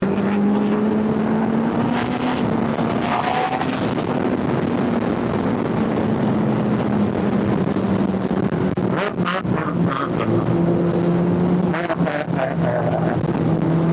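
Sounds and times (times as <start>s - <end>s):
steady rush of noise: 0.0s - 13.9s.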